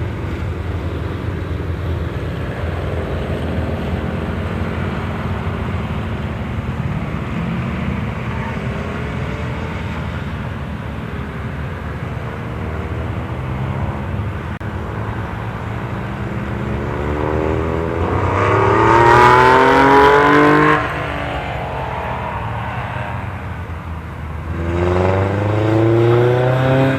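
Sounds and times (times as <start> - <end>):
car accelerating: 0.0 - 26.9
car engines running: 0.0 - 26.9.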